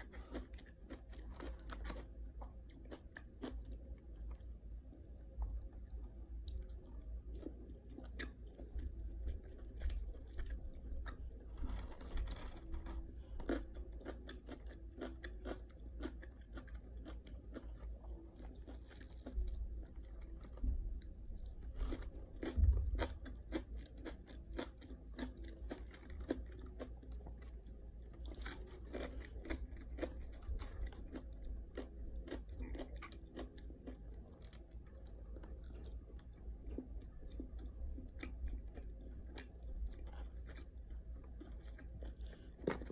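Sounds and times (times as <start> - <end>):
chewing crunchy food: 0.0 - 42.9.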